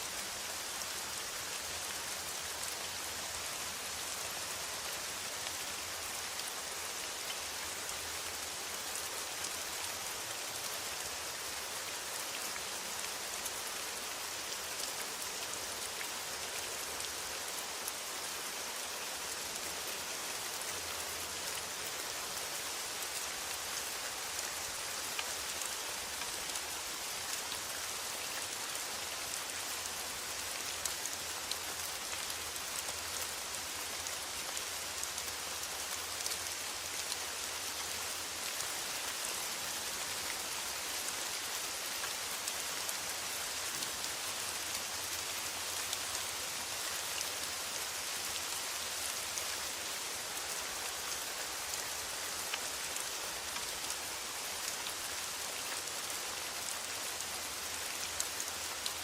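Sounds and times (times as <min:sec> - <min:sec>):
rain on a metal roof: 0:00.0 - 0:59.0.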